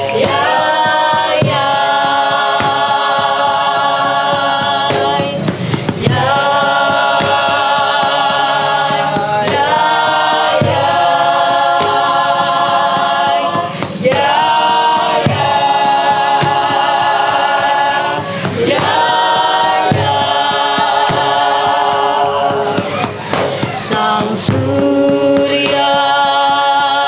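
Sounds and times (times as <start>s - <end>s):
group singing a cappella: 0.0s - 27.0s
sharp beat taps: 0.0s - 27.0s.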